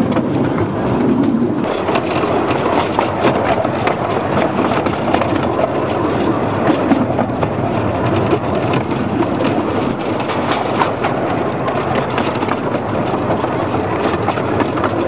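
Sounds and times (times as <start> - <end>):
train wheels rumbling on track: 0.0 - 15.0
quick clicks of wheels: 1.6 - 15.0.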